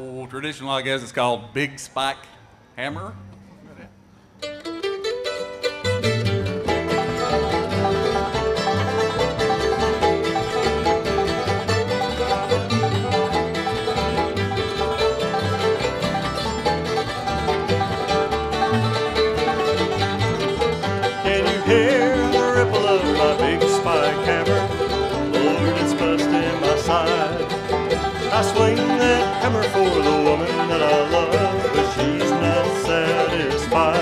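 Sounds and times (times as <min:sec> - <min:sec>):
bluegrass band playing: 0:04.4 - 0:34.0
wavering lead line: 0:06.2 - 0:34.0.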